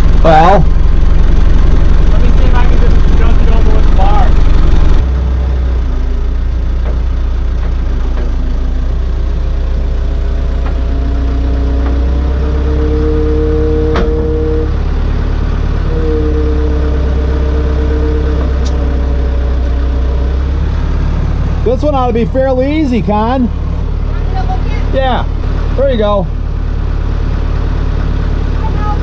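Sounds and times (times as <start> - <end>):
diesel engine running: 0.0 - 29.0
hydraulic whine: 0.0 - 29.0.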